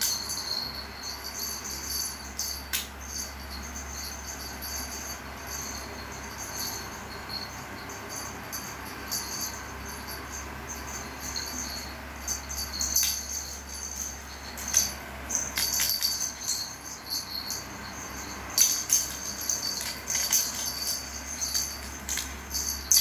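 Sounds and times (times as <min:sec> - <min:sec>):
jingle bell toy rattling: 0:00.0 - 0:23.0.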